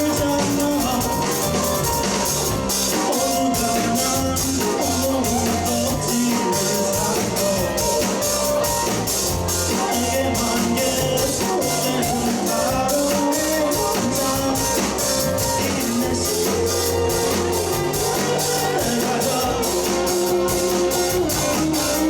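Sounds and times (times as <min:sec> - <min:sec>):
bass guitar: 0:00.0 - 0:22.0
drum kit: 0:00.0 - 0:22.0
electric guitars: 0:00.0 - 0:22.0.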